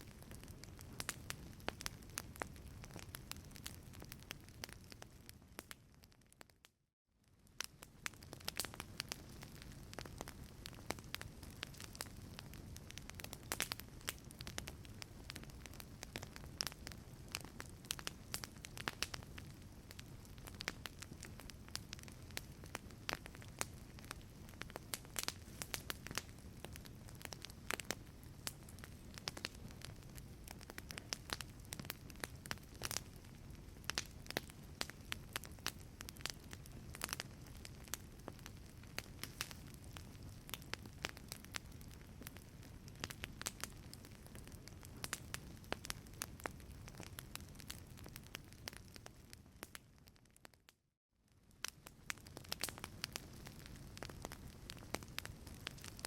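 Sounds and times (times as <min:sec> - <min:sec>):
low rumble of flames: 0:00.0 - 0:06.4, 0:07.2 - 0:50.5, 0:51.3 - 0:56.0
wood fire crackling: 0:00.0 - 0:50.5, 0:51.3 - 0:56.0.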